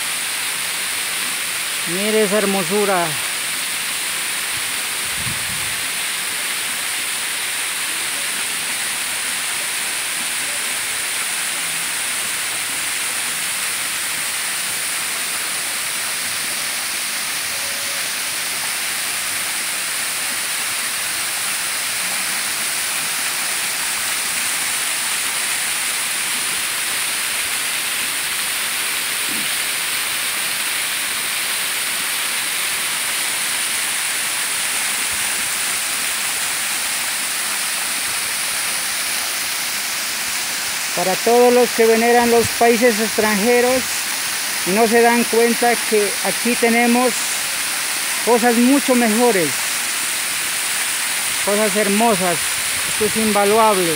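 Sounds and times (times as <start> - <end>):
waterfall splashing into pool: 0.0 - 53.9.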